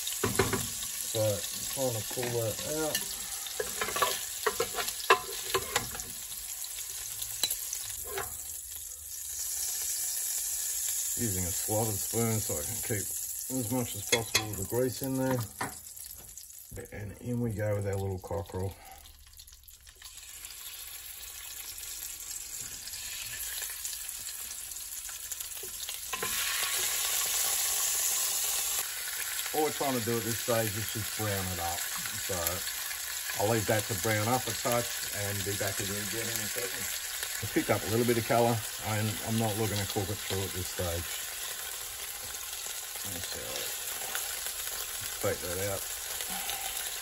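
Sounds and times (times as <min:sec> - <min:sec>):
bacon sizzling in oil: 0:00.0 - 0:47.0.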